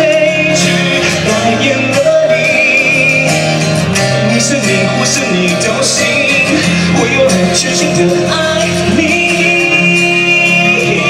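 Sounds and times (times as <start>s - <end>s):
instrumental accompaniment: 0.0s - 11.0s
man singing into microphone: 0.0s - 11.0s.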